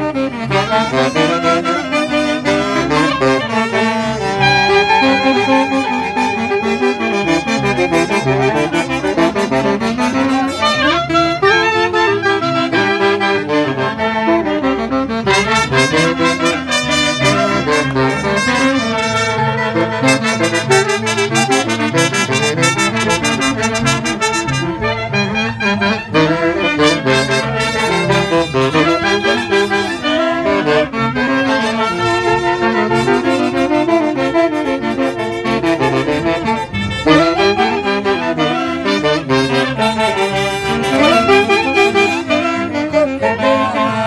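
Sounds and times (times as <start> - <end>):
saxophones and brass dance music: 0.0 - 44.0.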